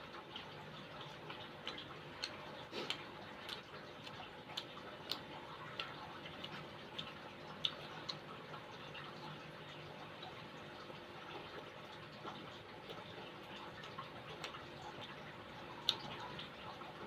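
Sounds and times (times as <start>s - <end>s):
chewing crunches: 0.1s - 10.4s, 11.0s - 17.0s.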